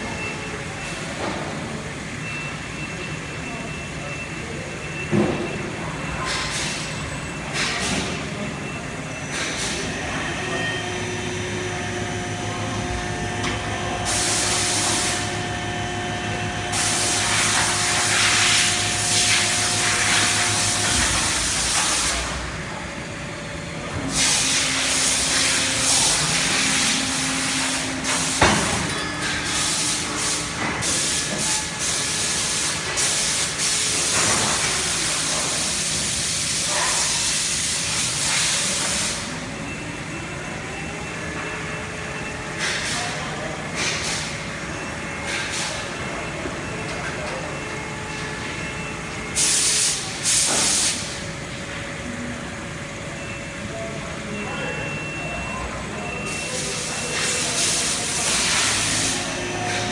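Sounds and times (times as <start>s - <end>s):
machinery hum: 0.0s - 59.9s.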